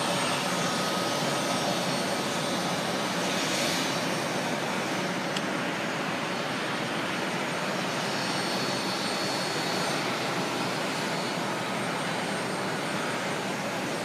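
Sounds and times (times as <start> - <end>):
faint high whine: 0.0 - 14.0
jet aircraft rushing hum: 0.0 - 14.0.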